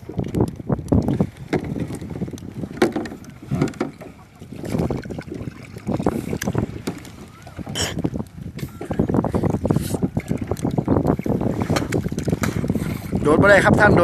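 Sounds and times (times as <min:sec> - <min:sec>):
water splashing around a boat: 0:00.0 - 0:14.0
wind buffeting microphone: 0:00.0 - 0:14.0.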